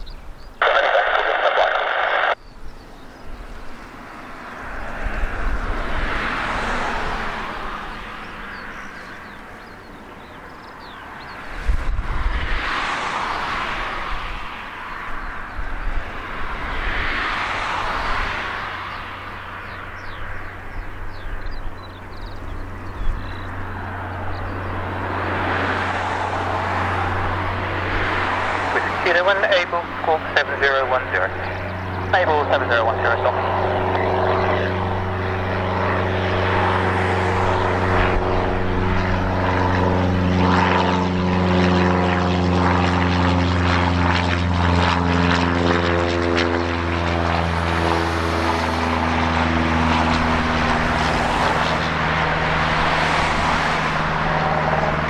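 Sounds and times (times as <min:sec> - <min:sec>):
birds chirping: 0:00.0 - 0:05.2, 0:06.6 - 0:11.6, 0:17.5 - 0:55.0
propeller plane engine drone: 0:00.0 - 0:55.0.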